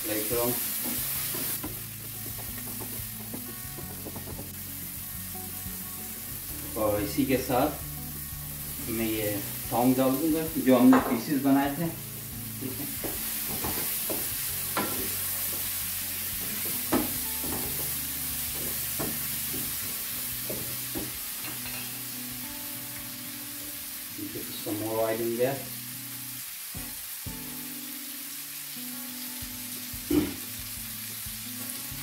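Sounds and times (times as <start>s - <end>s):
meat sizzling in a frying pan: 0.0s - 32.0s.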